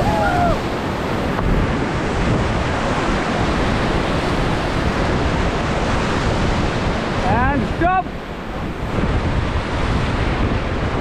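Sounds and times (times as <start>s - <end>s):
river rapids rushing and splashing: 0.0s - 11.0s
wind buffeting microphone: 0.0s - 11.0s.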